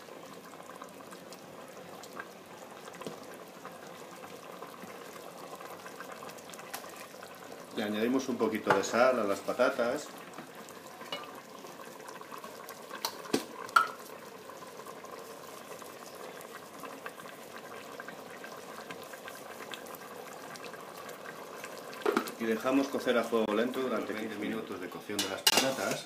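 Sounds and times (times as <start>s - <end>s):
stew boiling in a pot: 0.0s - 26.0s.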